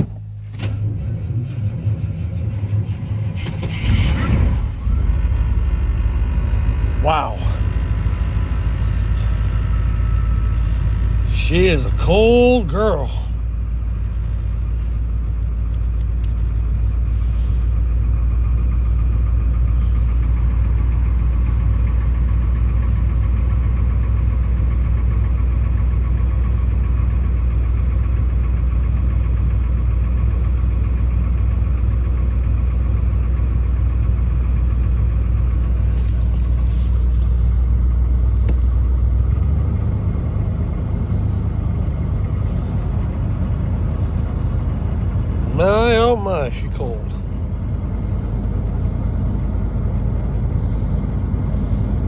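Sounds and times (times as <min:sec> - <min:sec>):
car engine idling rough: 0:00.0 - 0:52.0.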